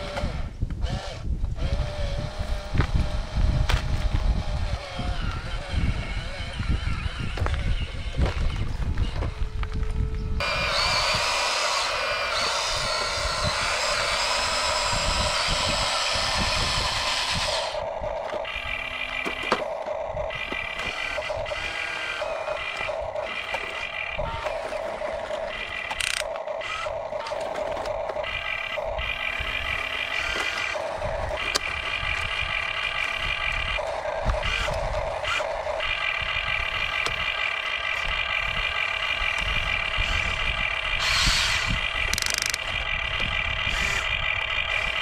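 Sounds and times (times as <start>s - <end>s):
small electric motors whining: 0.0s - 45.0s
pulsing tone: 5.0s - 45.0s.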